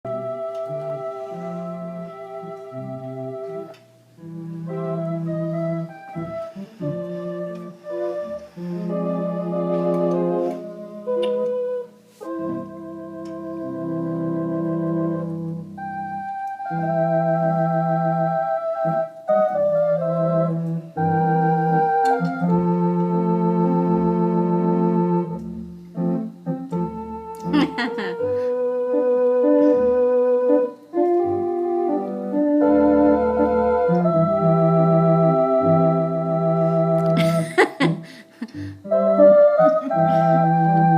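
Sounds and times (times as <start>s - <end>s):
organ playing a tune: 0.0s - 40.9s.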